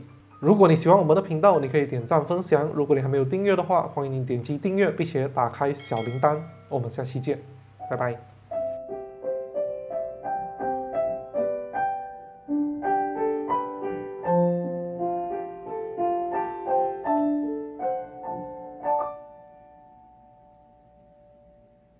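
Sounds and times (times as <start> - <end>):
piano melody: 0.0 - 21.9.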